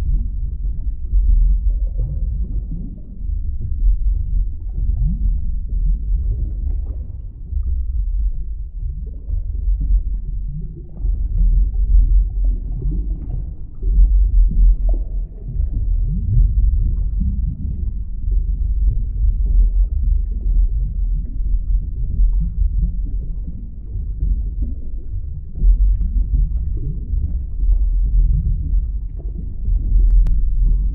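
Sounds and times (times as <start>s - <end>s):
muffled underwater rumble: 0.0s - 30.9s.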